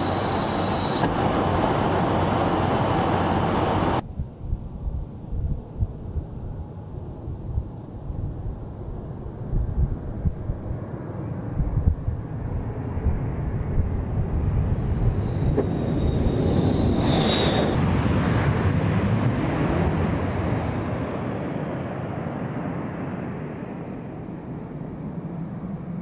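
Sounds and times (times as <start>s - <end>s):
jet engines roaring with high whine: 0.0s - 4.1s, 5.1s - 26.0s.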